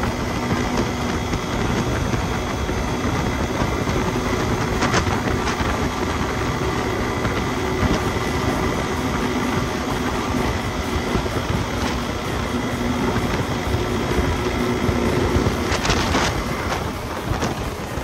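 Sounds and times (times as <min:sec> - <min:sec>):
motorcycle engine: 0:00.0 - 0:18.0
road noise: 0:00.0 - 0:18.0
wind rush over microphone: 0:00.0 - 0:18.0.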